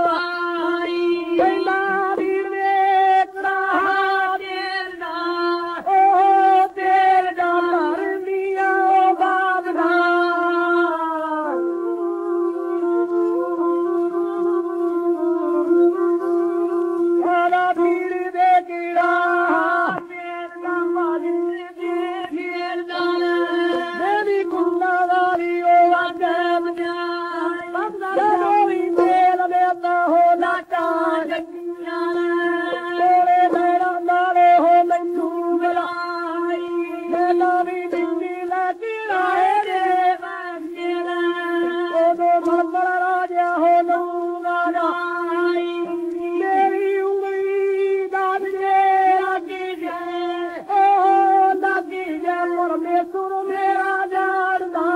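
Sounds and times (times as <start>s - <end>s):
folk singing on old record: 0.0s - 54.9s.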